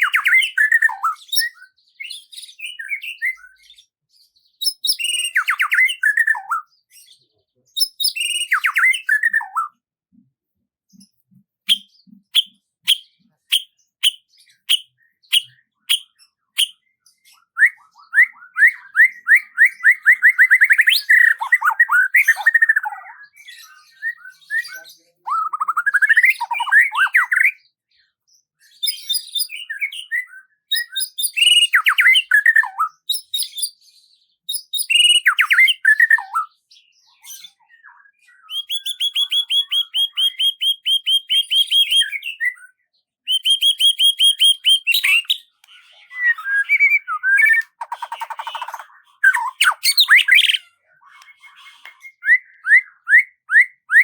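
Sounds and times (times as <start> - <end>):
songbird singing with trills: 0.0 - 10.3, 10.9 - 54.0.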